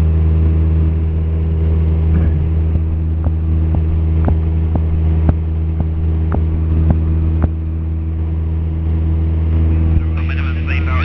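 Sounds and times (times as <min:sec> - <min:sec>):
airplane engine and propeller drone: 0:00.0 - 0:11.0.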